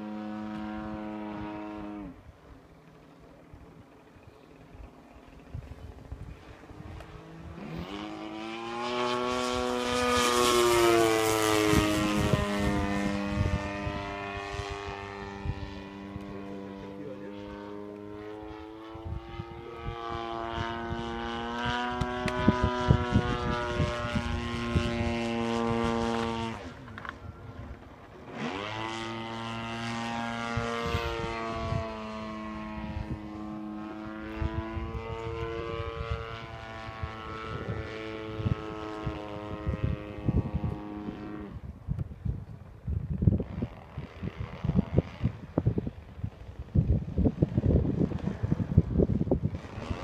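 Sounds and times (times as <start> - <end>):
model airplane engine and propeller: 0.0 - 50.0.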